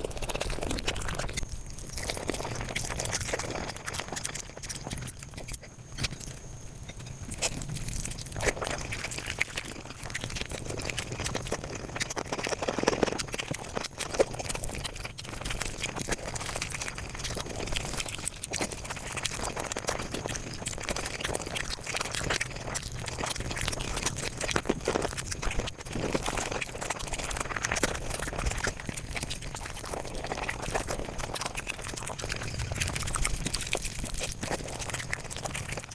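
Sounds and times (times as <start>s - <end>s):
sped-up chewing and mouth smacks: 0.0s - 35.9s.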